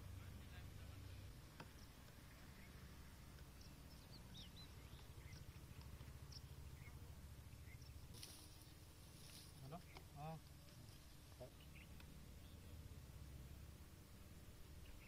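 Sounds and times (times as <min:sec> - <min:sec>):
faint bird chirps: 0:00.1 - 0:12.9, 0:14.6 - 0:15.0.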